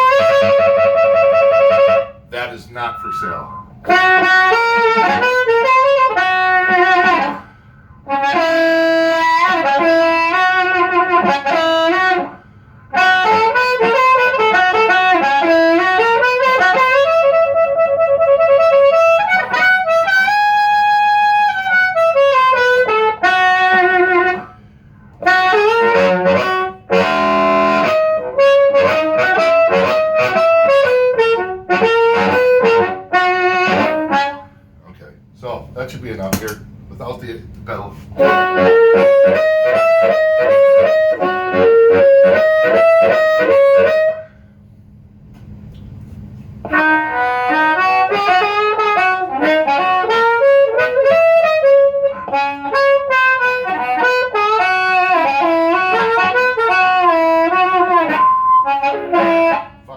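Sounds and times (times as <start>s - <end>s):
amplified harmonica playing: 0.0s - 34.5s, 38.2s - 44.4s, 46.6s - 59.9s.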